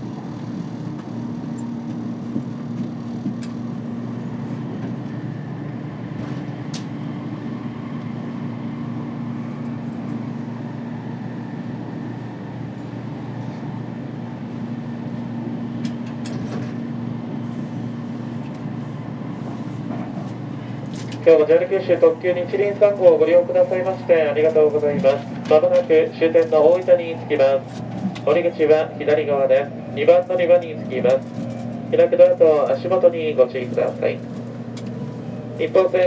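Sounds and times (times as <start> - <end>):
train cabin rumble and hum: 0.0 - 36.0.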